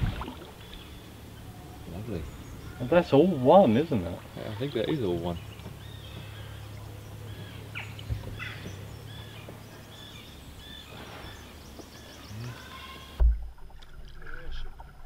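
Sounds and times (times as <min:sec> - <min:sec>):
low steady hum: 0:00.0 - 0:15.0
songbirds chirping and singing: 0:00.3 - 0:13.2.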